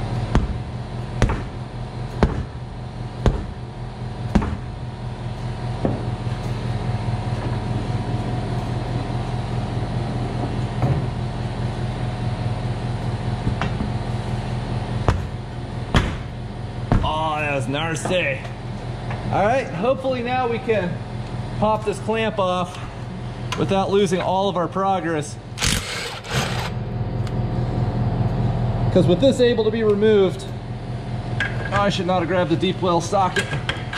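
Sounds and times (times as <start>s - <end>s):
steady mechanical hum: 0.0s - 33.9s.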